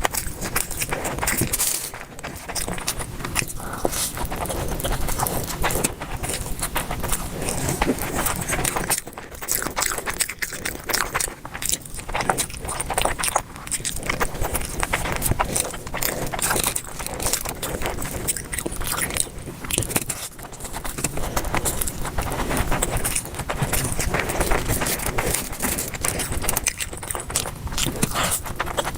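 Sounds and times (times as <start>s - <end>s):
person chewing food: 0.0s - 28.9s.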